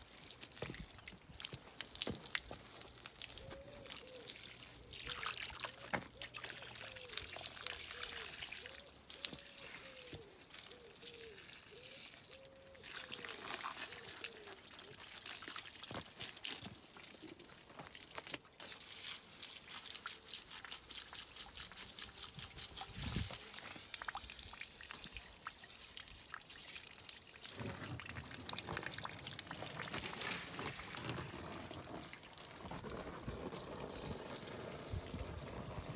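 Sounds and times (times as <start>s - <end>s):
hose water splashing on stone: 0.0s - 35.9s.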